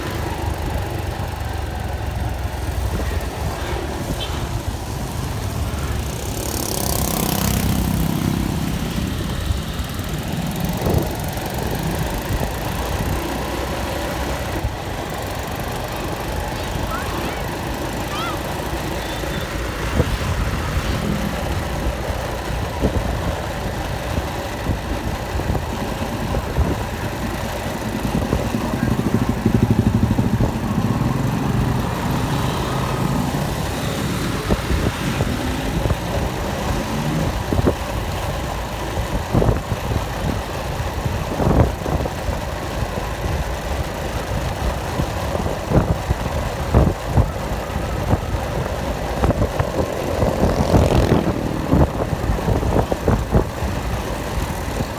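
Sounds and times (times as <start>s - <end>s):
engine running: 0.0s - 54.9s.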